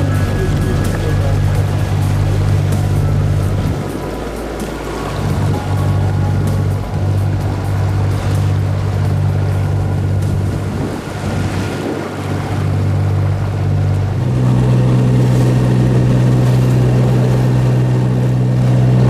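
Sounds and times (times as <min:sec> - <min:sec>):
boat engine running: 0:00.0 - 0:19.0
rushing water: 0:00.0 - 0:19.0.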